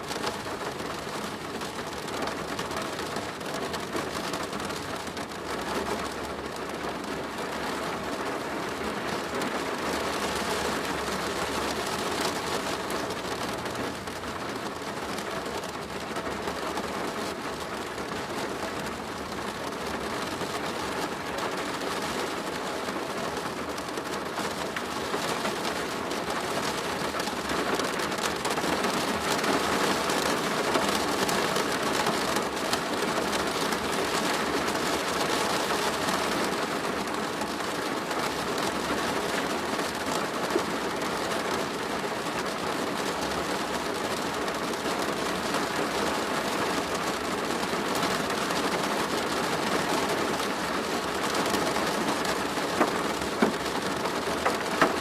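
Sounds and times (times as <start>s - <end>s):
rain drumming on a plastic roof: 0.0s - 55.0s.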